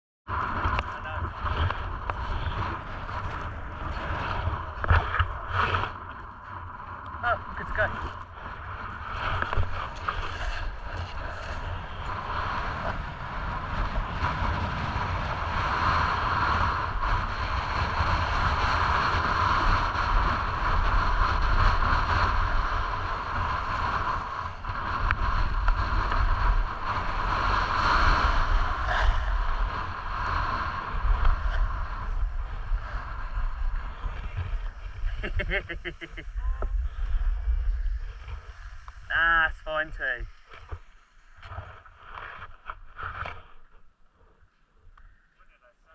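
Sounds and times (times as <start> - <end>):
wind buffeting microphone: 0.3 - 43.8
skis sliding on snow: 0.4 - 43.9.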